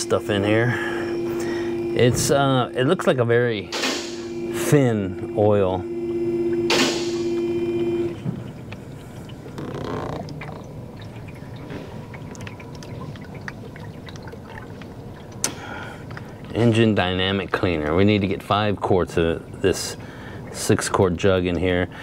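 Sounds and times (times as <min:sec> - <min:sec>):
liquid trickling through a funnel: 0:00.0 - 0:03.7, 0:07.3 - 0:22.0
steady hum: 0:00.0 - 0:22.0.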